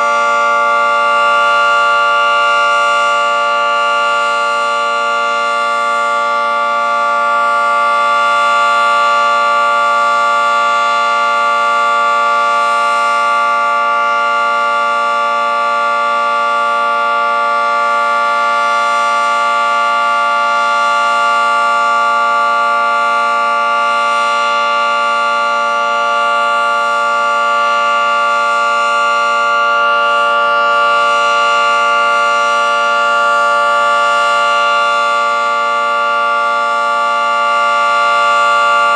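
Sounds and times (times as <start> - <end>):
two-tone warning siren: 0.0 - 38.9.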